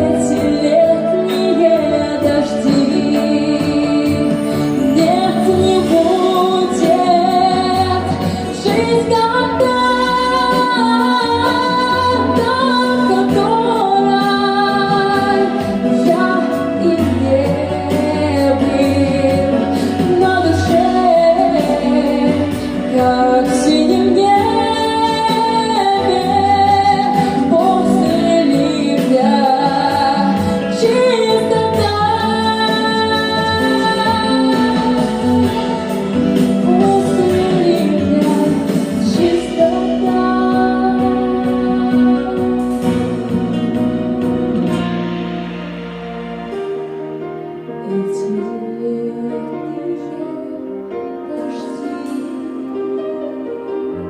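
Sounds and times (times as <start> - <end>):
woman singing: 0.0 - 45.7, 47.6 - 54.0
instrumental backing music: 0.0 - 54.0.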